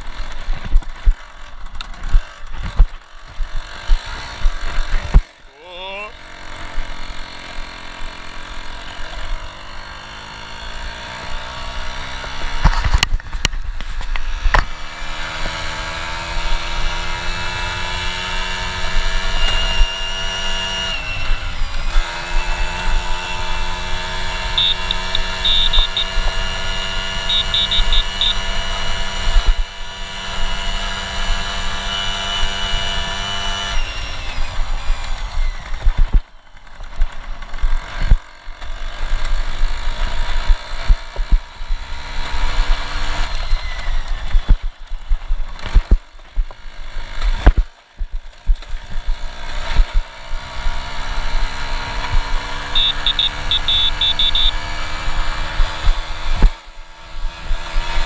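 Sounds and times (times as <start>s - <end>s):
two-stroke moped engine: 0.0s - 58.0s.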